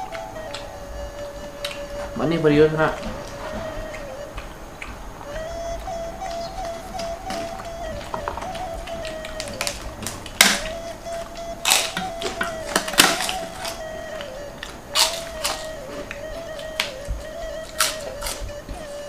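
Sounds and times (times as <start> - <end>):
background music: 0.0 - 19.0
utensils clinking: 0.0 - 19.0.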